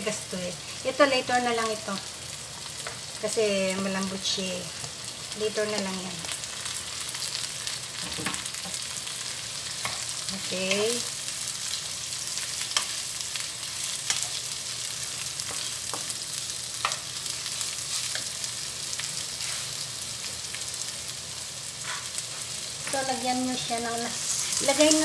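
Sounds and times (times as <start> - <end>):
vegetables sizzling in a frying pan: 0.0 - 25.0.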